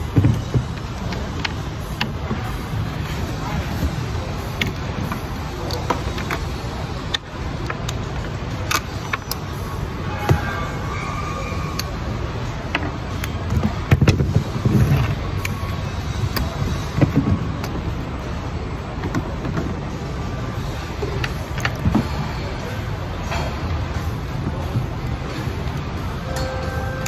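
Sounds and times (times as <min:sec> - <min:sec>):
factory machinery drone: 0:00.0 - 0:27.0.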